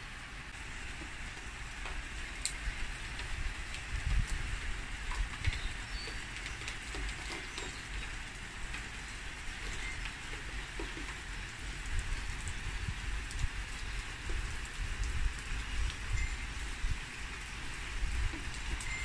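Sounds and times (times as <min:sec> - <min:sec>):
heavy rain on water and paving: 0:00.0 - 0:19.0.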